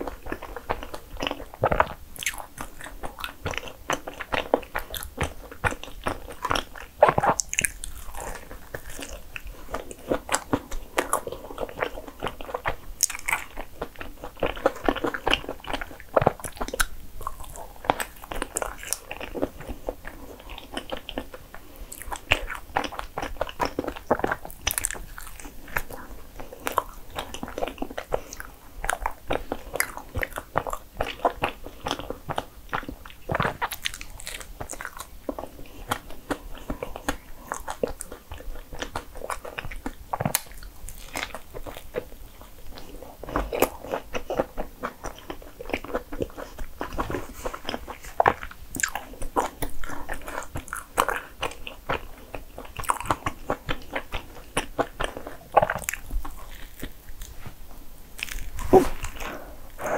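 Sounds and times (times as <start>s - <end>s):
person chewing soft food: 0.0s - 59.9s.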